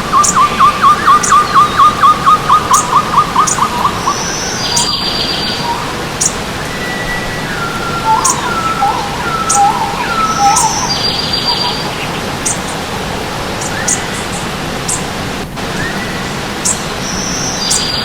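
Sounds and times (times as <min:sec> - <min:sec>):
songbirds singing: 0:00.0 - 0:18.0
stream water rushing: 0:00.0 - 0:18.0.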